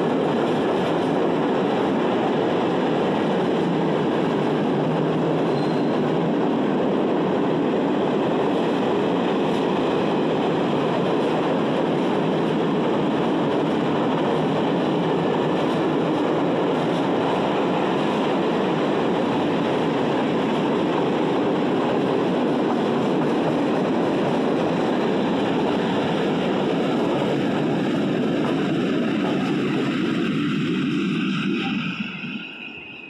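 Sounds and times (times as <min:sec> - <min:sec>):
train wheels rolling on track: 0:00.0 - 0:33.0.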